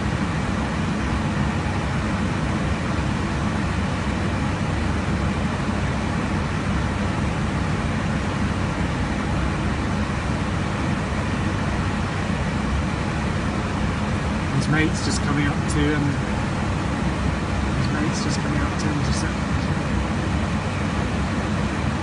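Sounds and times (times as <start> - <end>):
low even hum: 0.0 - 22.0.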